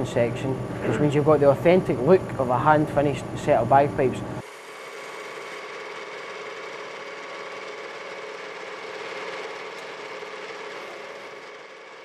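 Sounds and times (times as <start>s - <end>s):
lathe machine hum: 0.0s - 12.0s.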